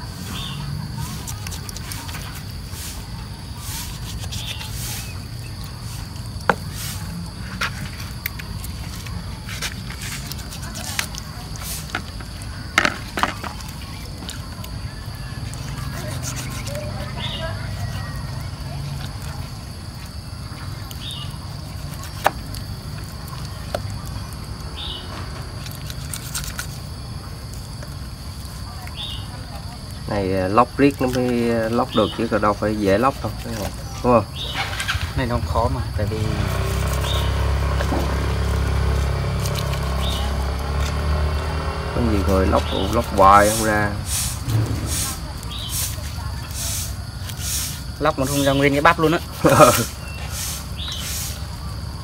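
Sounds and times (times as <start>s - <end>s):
knife cutting and scraping meat: 0.4s - 23.9s, 25.0s - 27.0s, 31.0s - 35.1s, 36.4s - 41.1s, 42.4s - 51.4s.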